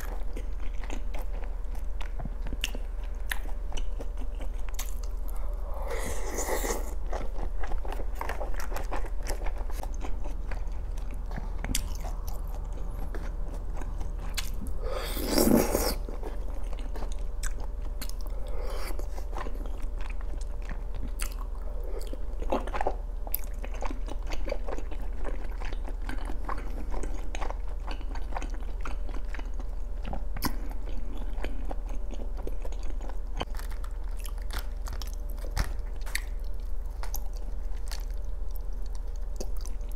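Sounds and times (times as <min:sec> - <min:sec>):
wet chewing with mouth clicks: 0:00.0 - 0:39.9.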